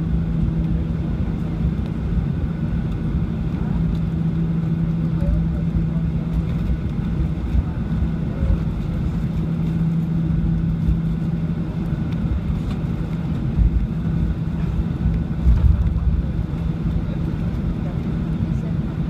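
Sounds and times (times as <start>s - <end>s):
airplane cabin rumble: 0.0s - 19.0s
steady hum: 0.0s - 19.0s.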